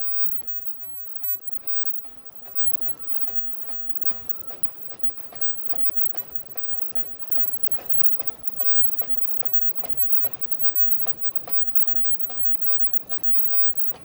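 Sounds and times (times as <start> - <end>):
constant mechanical hum: 0.0 - 14.0
machine clacking rhythmically: 0.0 - 14.0.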